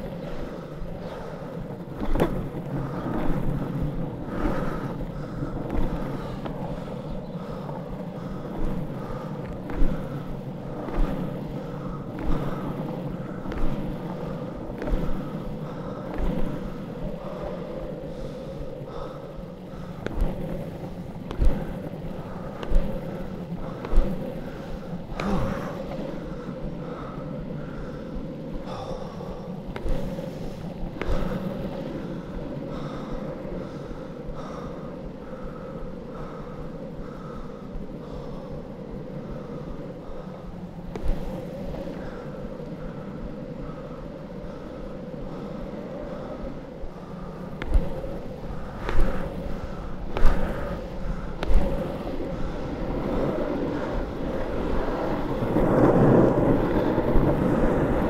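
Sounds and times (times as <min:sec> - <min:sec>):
longboard wheels rolling on tarmac: 0:00.0 - 0:58.0.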